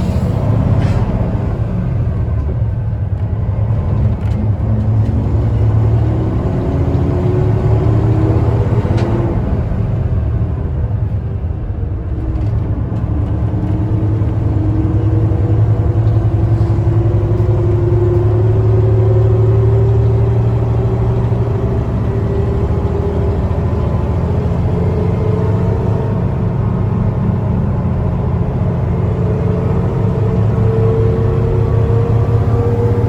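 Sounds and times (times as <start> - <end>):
bus diesel engine: 0.0 - 33.0.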